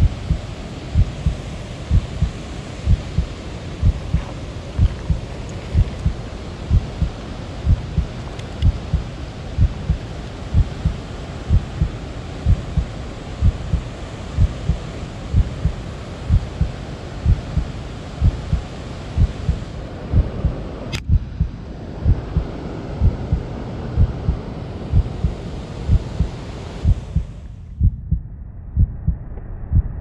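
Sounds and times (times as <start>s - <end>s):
steady hiss: 0.0s - 27.7s.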